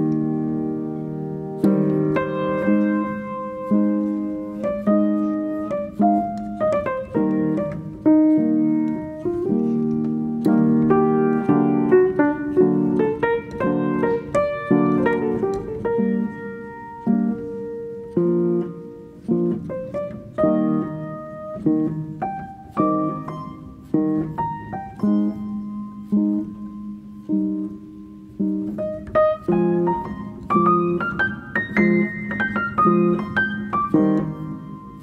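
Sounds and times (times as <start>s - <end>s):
piano playing chords and melody: 0.0s - 35.0s.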